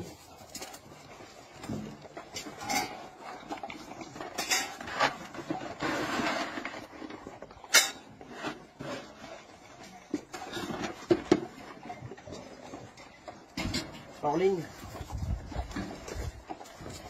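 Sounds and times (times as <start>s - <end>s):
metal dog bowls clanking: 0.0s - 17.0s.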